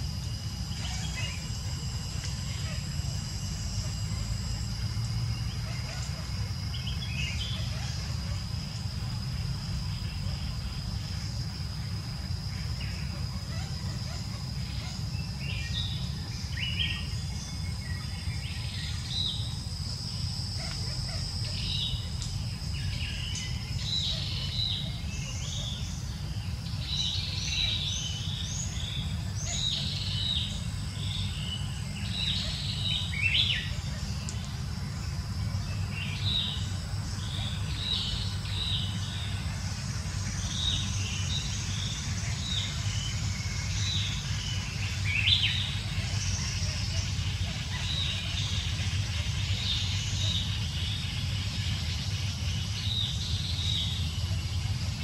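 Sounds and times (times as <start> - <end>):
high-pitched insect whine: 0.0 - 55.0.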